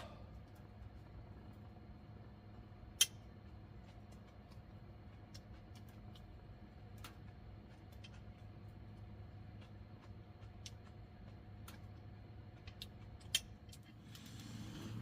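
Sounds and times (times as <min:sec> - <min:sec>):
firewood crackling and popping: 0:00.0 - 0:14.6
low steady hum: 0:00.0 - 0:15.0.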